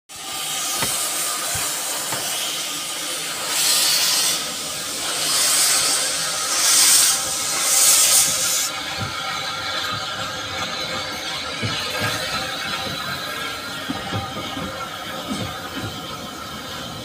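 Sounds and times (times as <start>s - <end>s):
locomotive chuffing: 0.1s - 17.0s
steam locomotive hissing steam: 0.1s - 17.0s.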